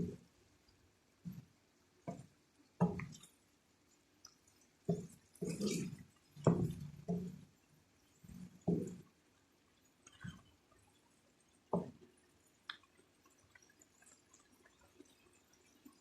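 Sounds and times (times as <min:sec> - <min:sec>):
thick sauce bubbling in a pan: 0:00.0 - 0:16.0.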